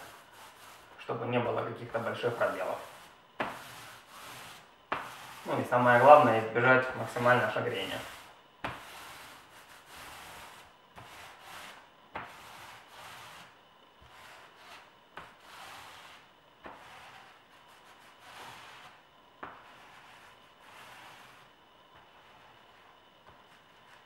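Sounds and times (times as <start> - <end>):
paint roller rasping: 0.0 - 19.0, 19.6 - 24.0.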